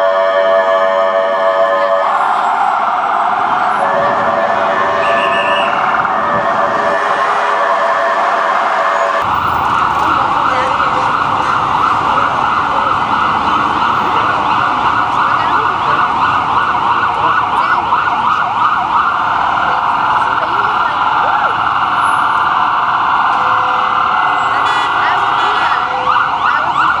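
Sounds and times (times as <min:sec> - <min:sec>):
ambulance siren: 0:00.0 - 0:27.0
traffic noise: 0:00.0 - 0:27.0.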